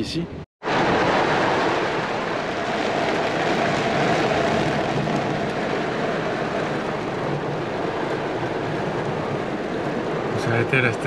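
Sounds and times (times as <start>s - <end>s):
heavy rain on car roof: 0.6s - 11.0s.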